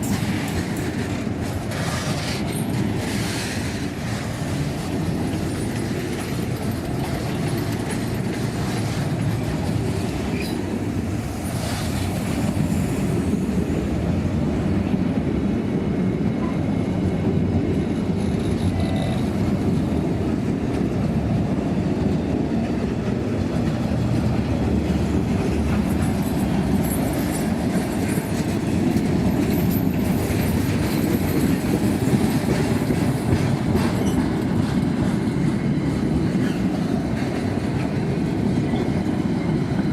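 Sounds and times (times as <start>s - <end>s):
wheels clacking over rail joints: 0.0s - 13.7s, 17.6s - 39.9s
train wagons rumbling: 0.0s - 39.9s.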